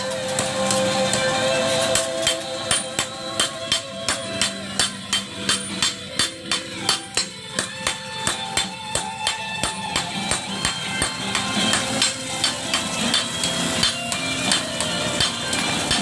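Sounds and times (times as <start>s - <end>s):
background music: 0.0s - 16.0s
hammer ringing on anvil: 1.9s - 16.0s.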